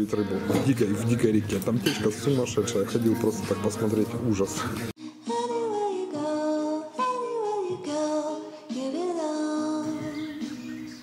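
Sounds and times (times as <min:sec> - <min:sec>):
slow song with high voice: 0:02.0 - 0:11.0.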